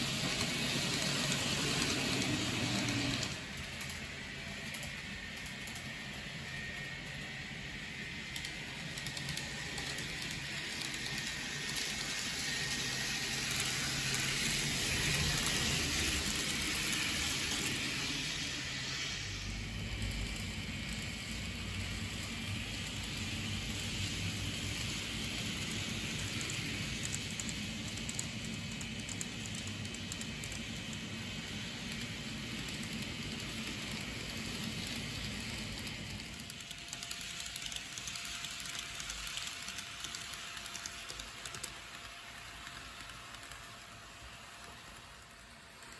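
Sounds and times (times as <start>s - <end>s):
model train wheels rolling: 0.0s - 45.9s.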